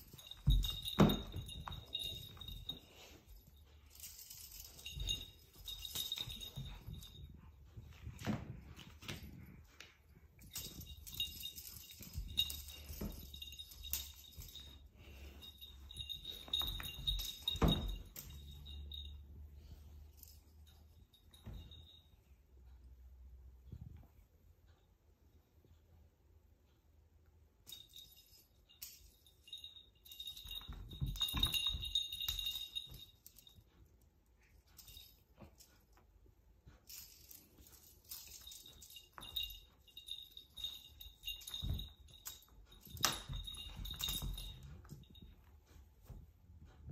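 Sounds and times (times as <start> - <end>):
small bell jingling: 0.0 - 22.5, 27.6 - 46.9.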